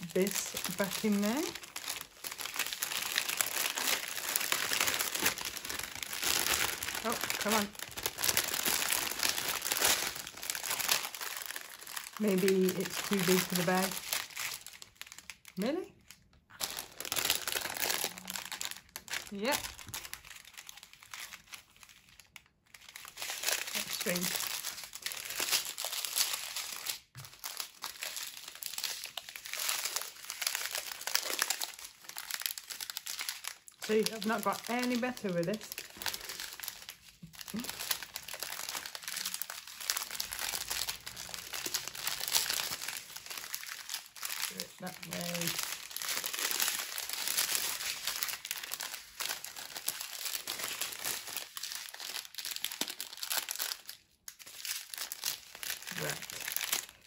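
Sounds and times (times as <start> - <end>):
plastic bags crinkling: 0.0 - 57.0.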